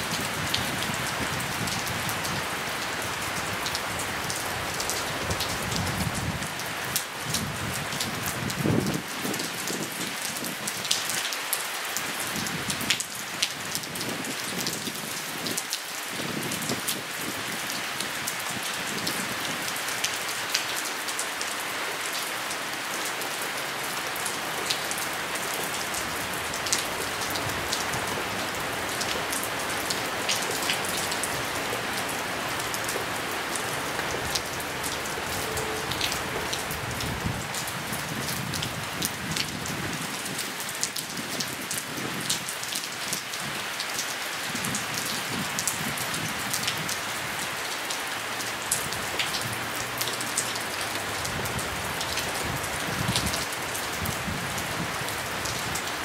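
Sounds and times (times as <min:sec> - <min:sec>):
steady rain: 0:00.0 - 0:56.0
raindrops ticking close by: 0:00.1 - 0:54.4.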